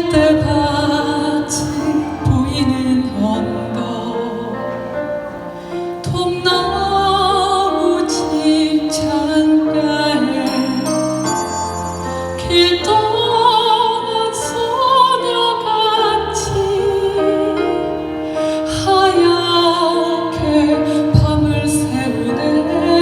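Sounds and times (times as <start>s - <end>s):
soprano singing with vibrato: 0.0s - 5.2s, 5.9s - 23.0s
instrumental accompaniment: 0.0s - 23.0s.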